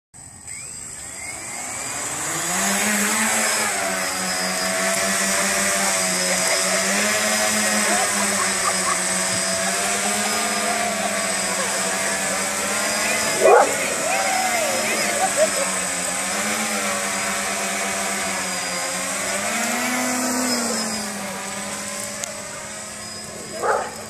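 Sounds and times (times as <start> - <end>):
drone propellers buzzing: 0.2 - 24.0.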